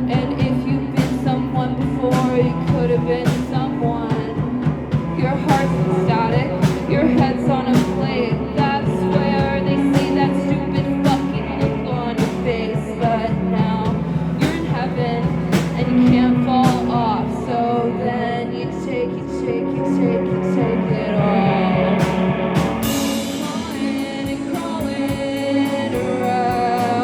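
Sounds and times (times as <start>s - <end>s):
amplified guitar and bass: 0.0s - 27.0s
drums: 0.0s - 27.0s.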